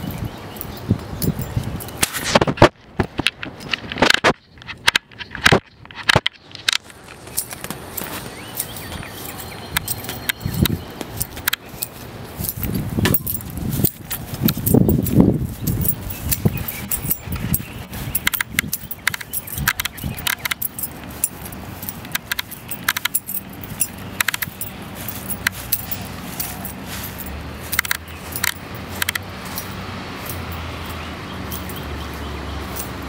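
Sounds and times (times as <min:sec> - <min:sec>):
keys jangling: 0:00.0 - 0:02.3, 0:06.9 - 0:33.0.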